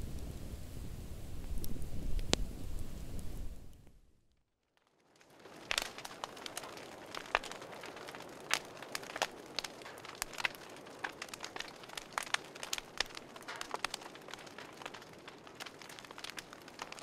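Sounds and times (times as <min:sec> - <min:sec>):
campfire crackling: 0:00.0 - 0:04.2, 0:04.8 - 0:17.0
burning logs popping and snapping: 0:01.3 - 0:04.0, 0:04.8 - 0:17.0.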